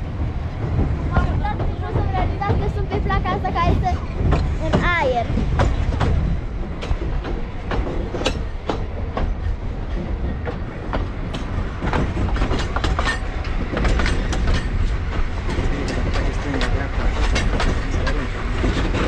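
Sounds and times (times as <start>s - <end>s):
steam train rumble: 0.0s - 19.0s
wheels knocking on track: 0.0s - 19.0s.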